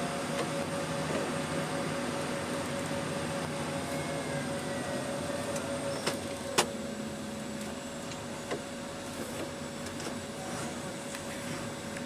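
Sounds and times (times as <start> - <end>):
tractor engine hum with whine: 0.0 - 12.0.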